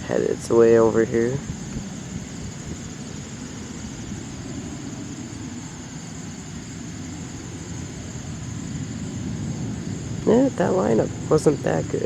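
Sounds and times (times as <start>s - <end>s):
distant jet engine rumble: 0.0s - 12.0s.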